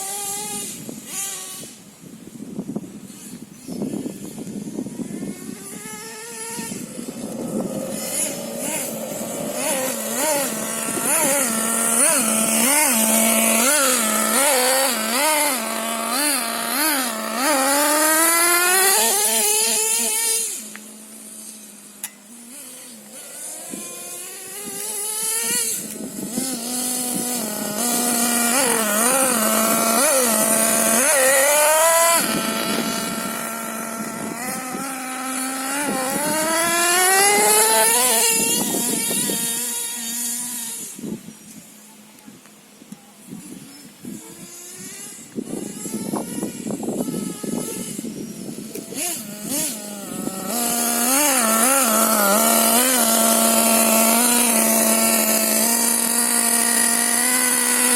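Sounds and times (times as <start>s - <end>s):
nitro engine revving: 0.0s - 1.8s, 3.1s - 41.3s, 43.4s - 57.9s.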